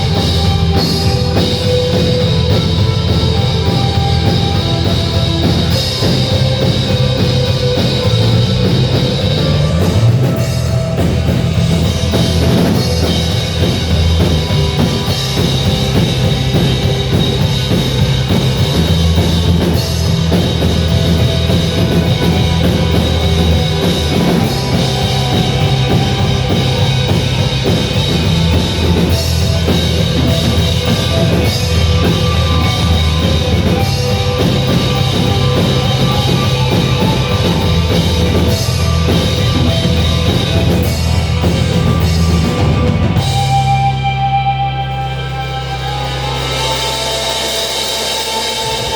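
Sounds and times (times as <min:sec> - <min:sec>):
driving drum kit: 0:00.0 - 0:48.9
heavy bass: 0:00.0 - 0:48.9
rock music: 0:00.0 - 0:48.9.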